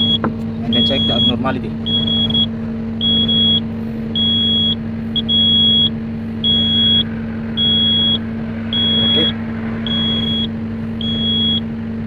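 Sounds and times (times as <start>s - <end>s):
warning buzzer beeping: 0.0s - 3.6s, 4.2s - 11.7s
excavator engine running: 0.0s - 12.0s.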